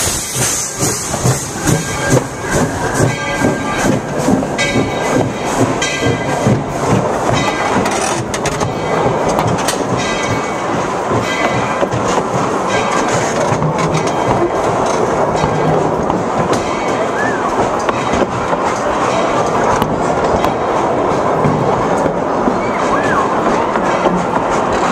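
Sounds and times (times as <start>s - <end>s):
train wheels clattering on rails: 0.0s - 24.9s.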